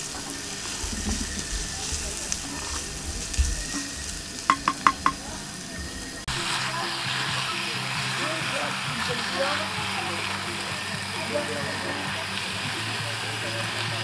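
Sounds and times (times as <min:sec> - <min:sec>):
onion and garlic sizzling in oil: 0:00.0 - 0:14.0.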